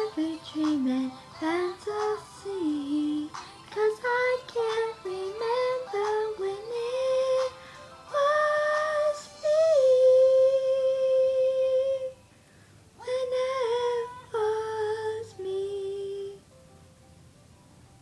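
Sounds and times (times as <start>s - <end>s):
woman singing unaccompanied: 0.0s - 12.2s, 13.0s - 16.5s.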